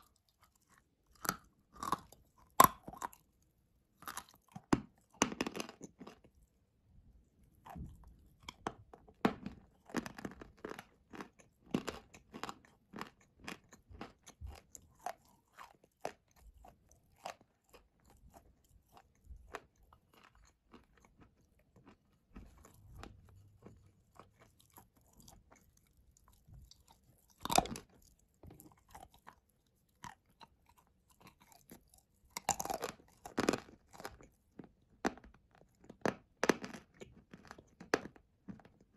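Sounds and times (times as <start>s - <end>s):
clay being chewed crunching: 0.0s - 6.6s, 7.3s - 38.9s.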